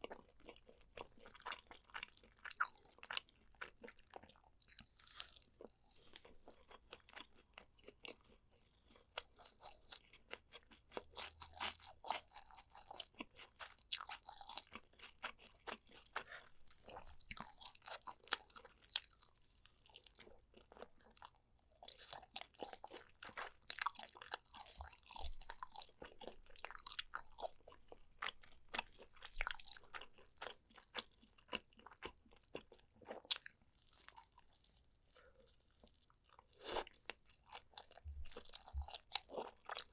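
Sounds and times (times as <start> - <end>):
chewing and biting: 0.0 - 39.9.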